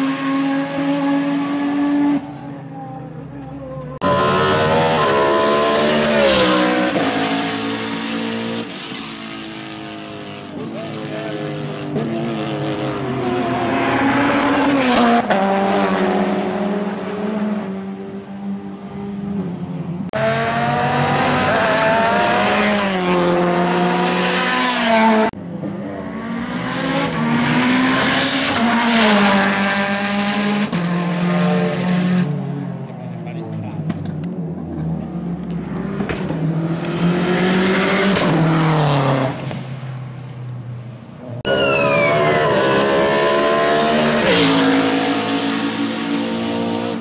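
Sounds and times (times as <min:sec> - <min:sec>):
race car engines at full throttle: 0:00.0 - 0:47.0.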